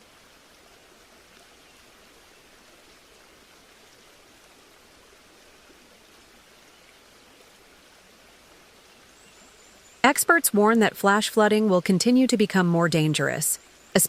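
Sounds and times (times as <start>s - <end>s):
faint rushing water: 0.0s - 14.0s.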